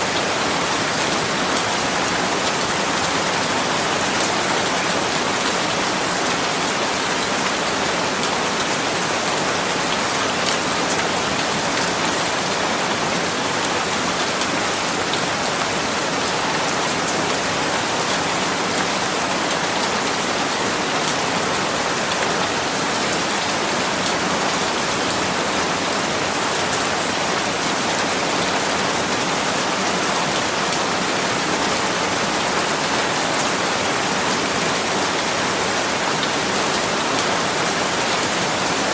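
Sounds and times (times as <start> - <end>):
rain pattering on a surface: 0.1 - 38.9.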